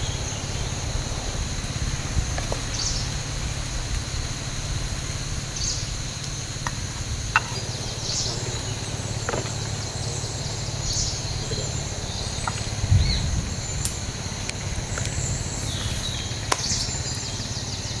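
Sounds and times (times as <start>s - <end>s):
insects buzzing: 0.0s - 18.0s
low rumble: 0.0s - 18.0s.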